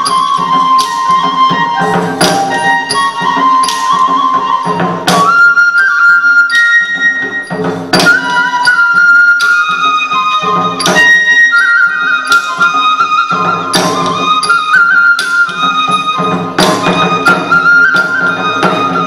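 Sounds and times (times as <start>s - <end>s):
flute melody: 0.0s - 19.0s
sharp percussion strikes: 0.0s - 19.0s.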